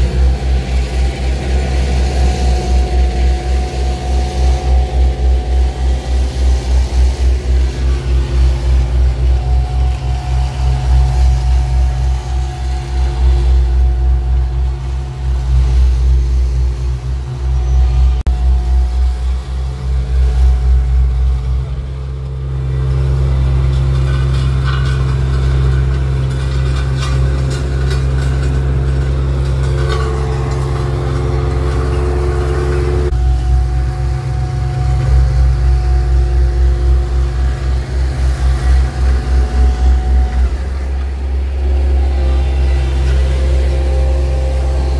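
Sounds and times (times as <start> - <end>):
rakes scraping through asphalt: 0.0 - 44.9
roller engine droning: 0.0 - 44.9.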